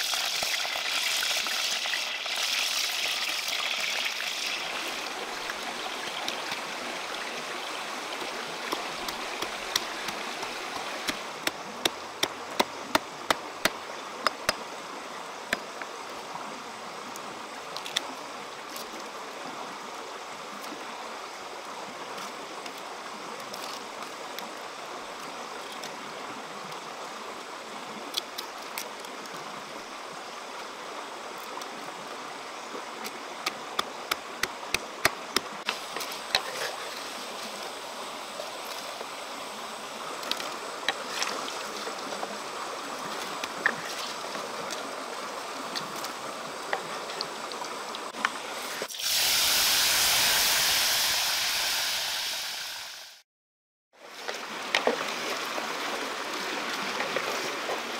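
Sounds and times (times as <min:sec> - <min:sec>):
rushing water-like hiss: 0:00.0 - 0:53.2.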